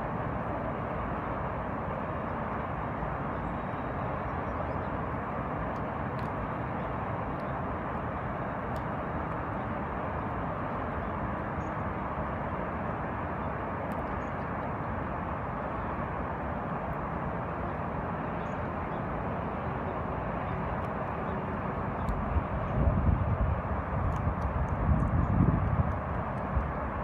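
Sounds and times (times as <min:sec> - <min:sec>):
distant traffic hum: 0:00.0 - 0:27.0.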